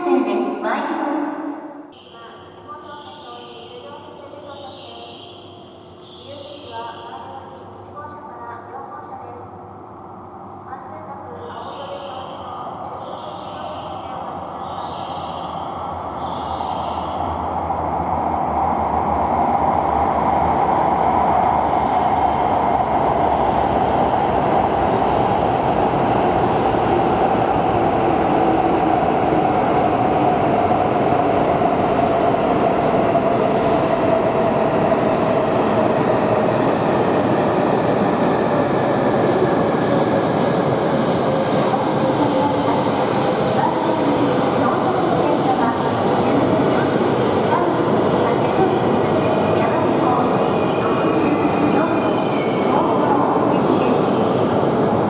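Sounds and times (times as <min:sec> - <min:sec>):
train running noise: 0:10.5 - 0:55.0.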